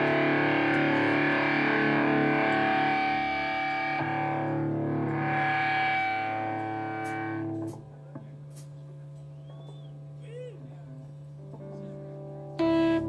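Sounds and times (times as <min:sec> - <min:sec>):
distorted electric guitar chords: 0:00.0 - 0:08.6, 0:11.2 - 0:13.0.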